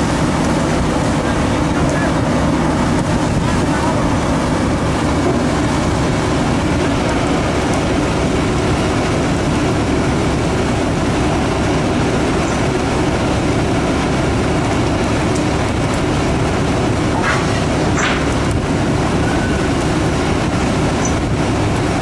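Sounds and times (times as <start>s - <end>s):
boat engine rumble: 0.0s - 22.0s.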